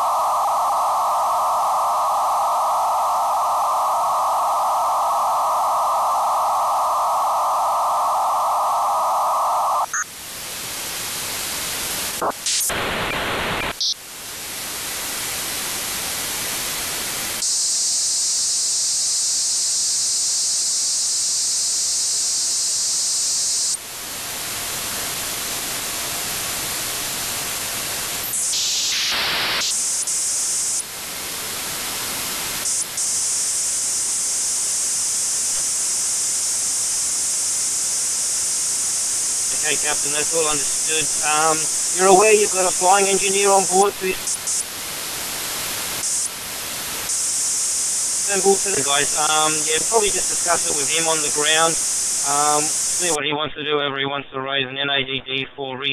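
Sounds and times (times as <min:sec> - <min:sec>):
radio static hiss: 0:00.0 - 0:53.8.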